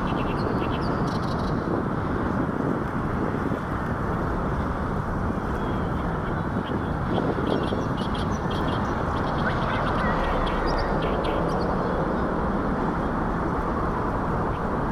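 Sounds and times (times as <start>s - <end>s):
steady rushing noise: 0.0s - 14.9s.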